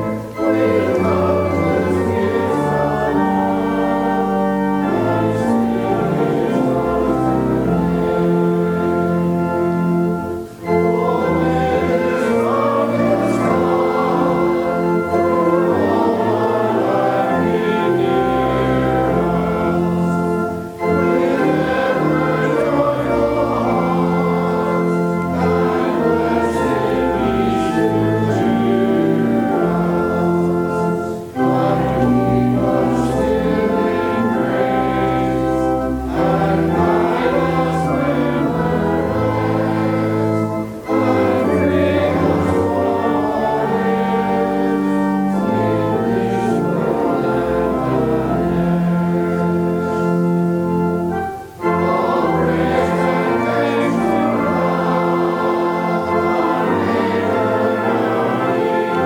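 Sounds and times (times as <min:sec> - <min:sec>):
choir singing sacred piece: 0:00.0 - 0:59.0
organ accompaniment: 0:00.0 - 0:59.0.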